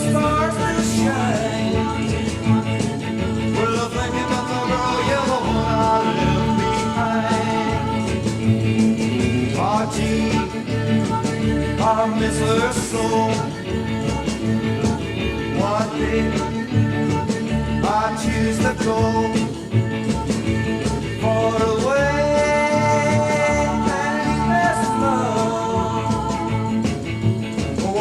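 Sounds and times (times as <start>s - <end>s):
country rock and roll band: 0.0s - 28.0s.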